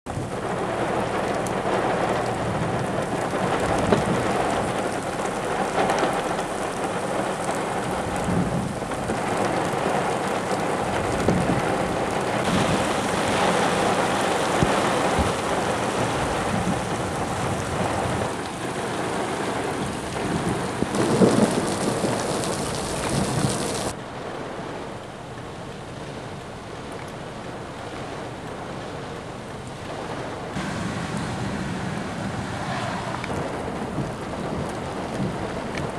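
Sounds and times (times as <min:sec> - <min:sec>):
thunder rumbling: 0:00.1 - 0:24.7, 0:29.9 - 0:35.9
heavy rain pouring: 0:00.1 - 0:35.9.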